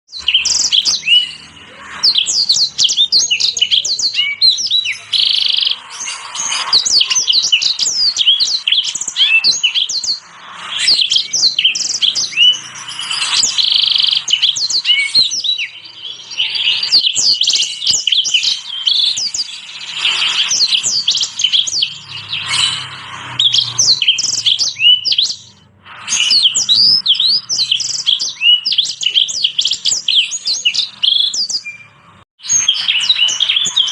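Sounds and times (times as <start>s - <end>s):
finches singing: 0.1s - 33.9s.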